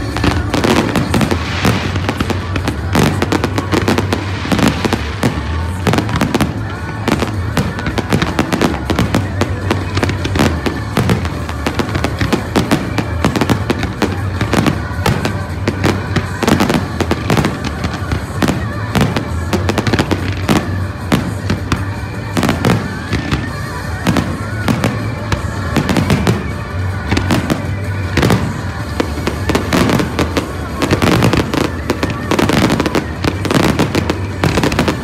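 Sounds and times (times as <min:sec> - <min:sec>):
fireworks bangs and crackles: 0:00.0 - 0:35.0
loud music with bass: 0:00.0 - 0:35.0.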